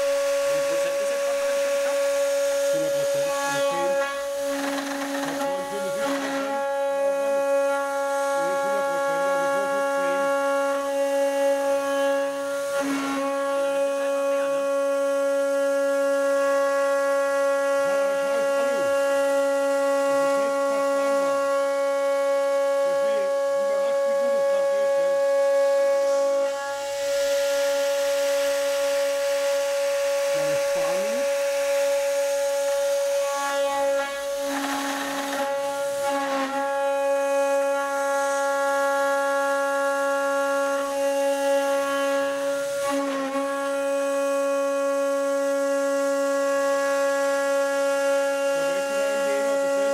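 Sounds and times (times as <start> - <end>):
router spindle milling metal: 0.0 - 24.1, 25.8 - 44.0
noisy burst: 0.0 - 49.9
rough metal cutting noise: 0.0 - 49.9.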